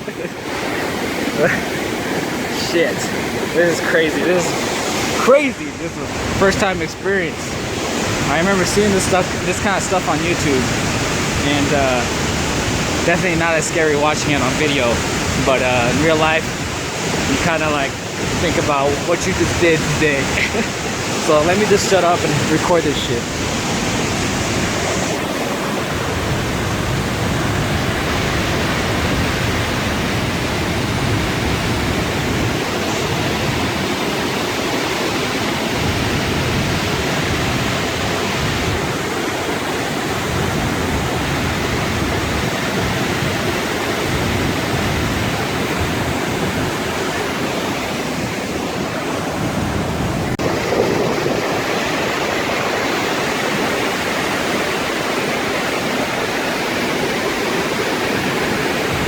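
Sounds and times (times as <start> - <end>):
flood water rushing: 0.0 - 59.0.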